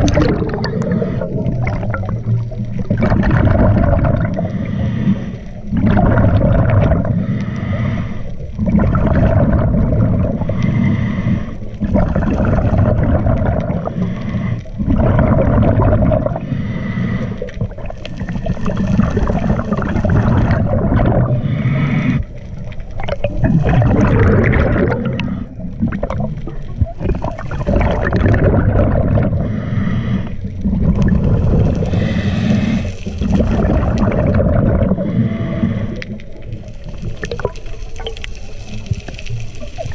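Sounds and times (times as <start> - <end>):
underwater bubbling gurgles: 0.0 - 39.9
diver breathing through regulator: 0.5 - 2.4, 3.9 - 22.8, 23.5 - 26.7, 27.6 - 36.8.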